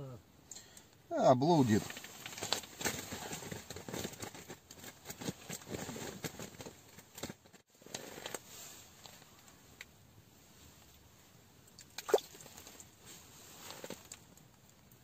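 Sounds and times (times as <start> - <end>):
faint clicking and rustling: 1.7 - 11.0, 11.7 - 15.0.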